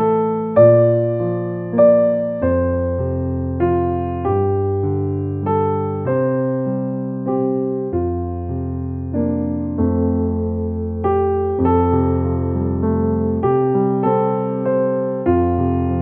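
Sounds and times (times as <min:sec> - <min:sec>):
keyboard playing gentle chords: 0:00.0 - 0:16.0.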